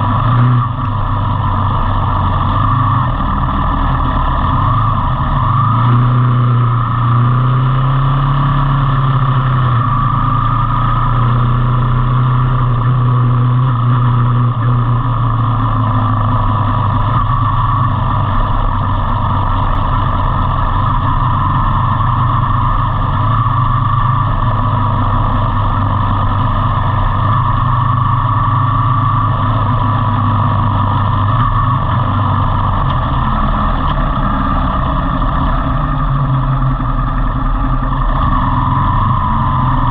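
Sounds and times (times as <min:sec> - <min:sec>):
road and wind noise: 0:00.0 - 0:39.9
vehicle engine humming: 0:00.0 - 0:39.9.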